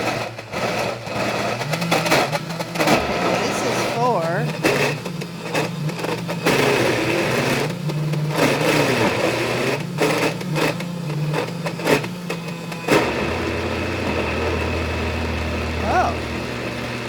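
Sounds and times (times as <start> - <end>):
blender motor running: 0.0 - 17.0.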